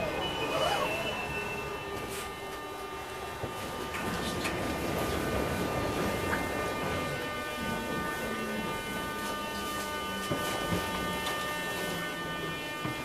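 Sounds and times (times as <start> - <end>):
subway doors knocking: 0.0 - 11.6
electrical hum and whine: 0.0 - 13.0.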